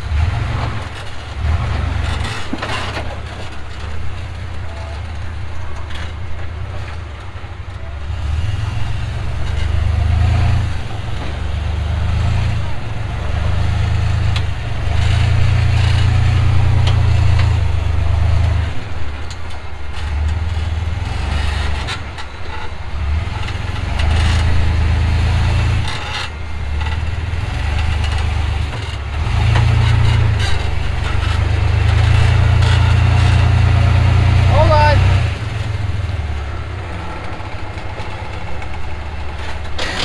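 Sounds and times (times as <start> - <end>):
buggy engine revving under load: 0.0 - 40.0.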